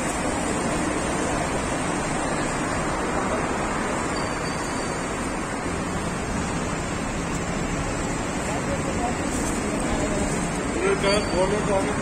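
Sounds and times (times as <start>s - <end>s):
traffic roar and hiss: 0.0s - 12.0s.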